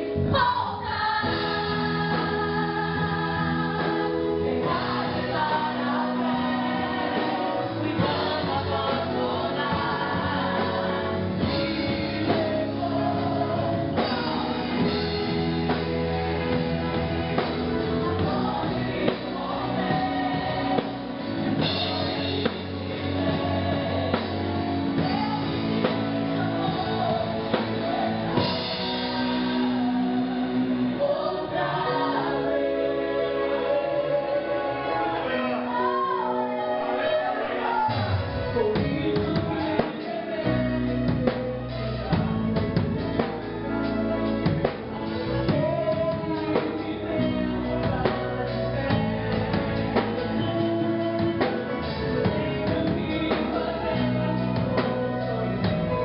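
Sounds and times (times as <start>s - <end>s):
group singing gospel song: 0.0s - 56.0s
band with steady beat: 1.2s - 32.1s, 37.2s - 56.0s.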